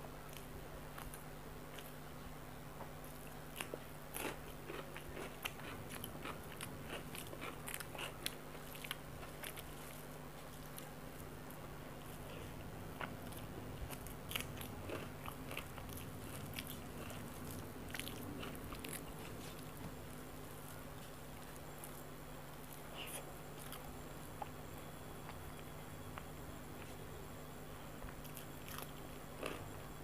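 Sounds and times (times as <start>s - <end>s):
faint low hum: 0.0s - 30.0s
person chewing rice: 0.3s - 2.0s, 2.8s - 27.1s, 27.8s - 30.0s.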